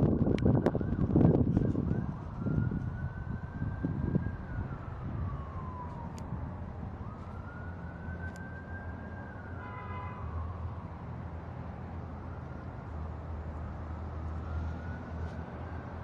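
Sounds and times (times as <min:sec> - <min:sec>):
siren wailing: 0:00.0 - 0:11.0, 0:12.2 - 0:16.0.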